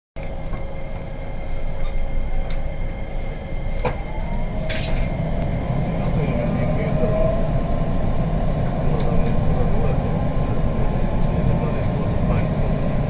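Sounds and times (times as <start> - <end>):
train car rumble: 0.2 - 13.0.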